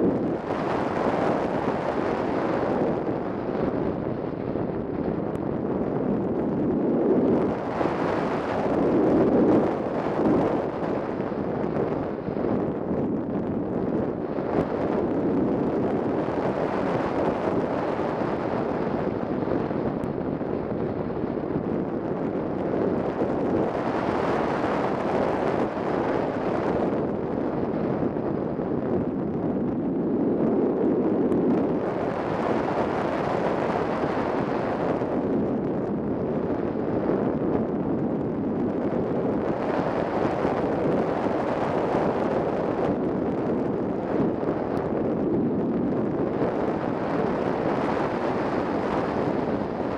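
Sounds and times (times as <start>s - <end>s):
wind rushing over camera: 0.0s - 49.9s.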